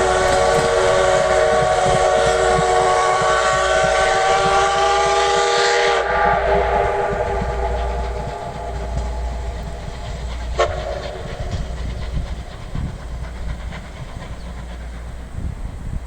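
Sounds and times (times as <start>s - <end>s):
faint train clicks: 0.0s - 16.0s
steam locomotive whistle echoing: 0.0s - 16.0s
train low rumble: 0.0s - 16.0s.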